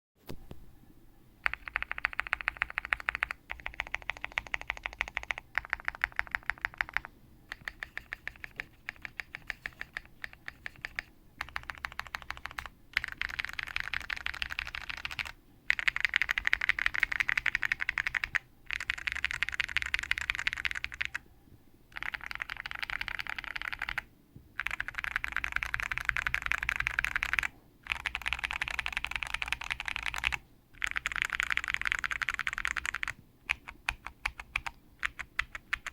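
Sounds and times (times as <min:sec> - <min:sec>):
mechanical keyboard typing: 0:01.4 - 0:21.2, 0:21.9 - 0:35.9.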